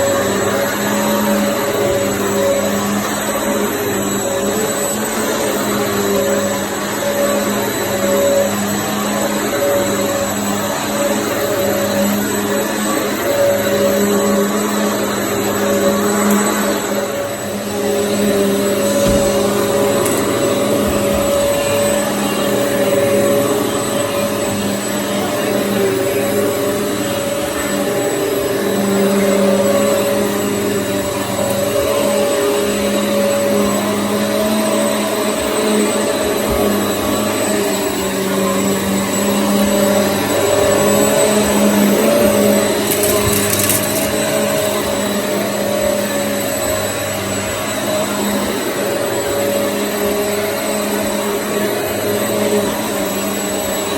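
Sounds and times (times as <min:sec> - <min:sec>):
upright vacuum cleaner running: 0:00.0 - 0:53.9.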